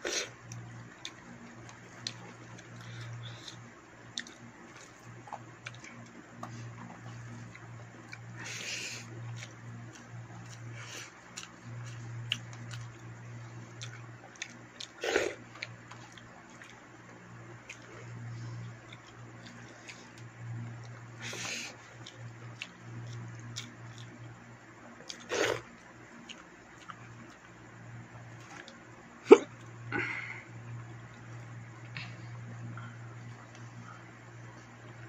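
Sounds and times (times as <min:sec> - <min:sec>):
person chewing: 0:00.0 - 0:27.5, 0:28.3 - 0:30.4
steady low hum: 0:00.0 - 0:35.0.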